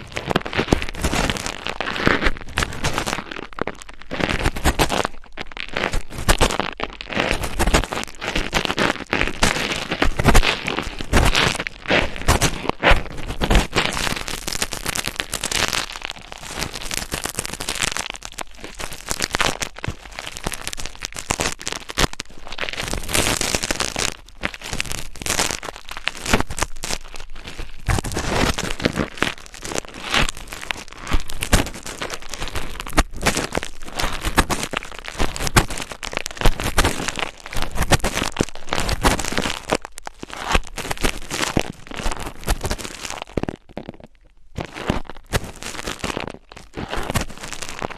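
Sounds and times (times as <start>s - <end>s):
scratching against microphone: 0.0s - 47.9s.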